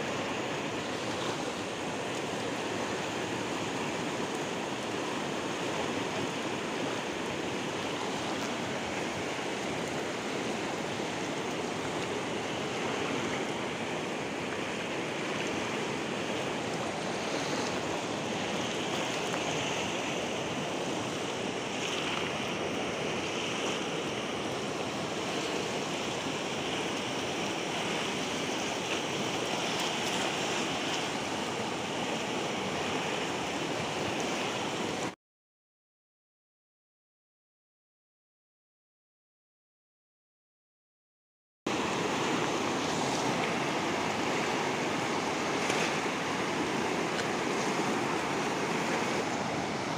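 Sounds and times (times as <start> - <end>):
river current rushing: 0.0 - 35.2, 41.7 - 49.9.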